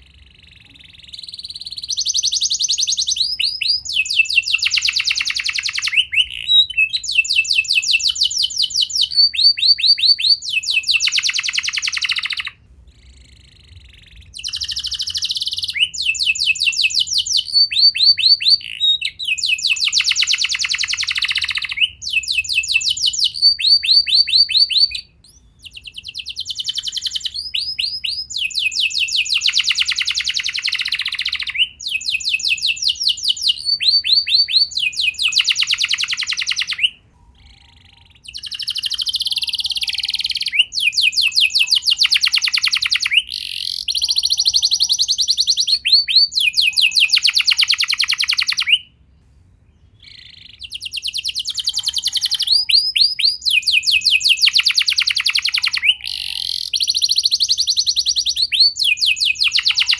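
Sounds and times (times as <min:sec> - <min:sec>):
canary singing trills: 0:00.0 - 0:49.0, 0:49.6 - 0:59.9.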